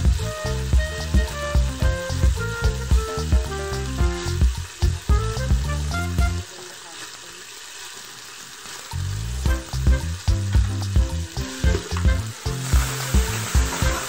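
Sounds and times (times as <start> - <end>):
bass-heavy music with steady beat: 0.0 - 6.5, 9.0 - 14.0
chicken sizzling in hot oil: 0.0 - 14.0.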